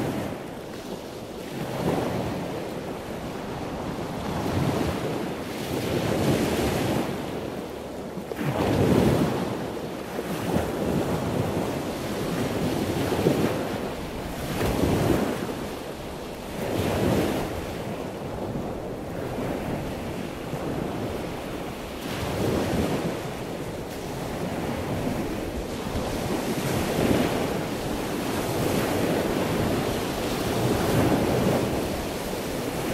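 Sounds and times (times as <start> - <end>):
wind buffeting the microphone: 0.0 - 32.9.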